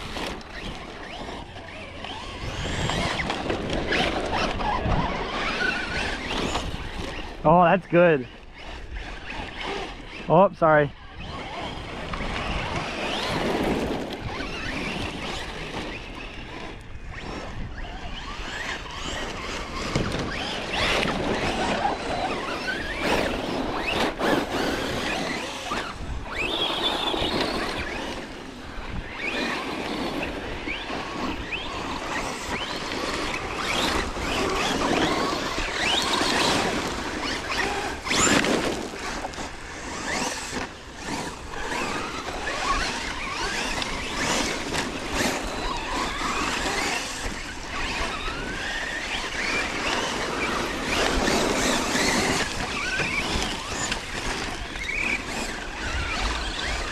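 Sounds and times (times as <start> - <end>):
rc truck motors whining: 0.0 - 56.9
tyres on gravel: 0.0 - 56.9
wind: 0.0 - 56.9.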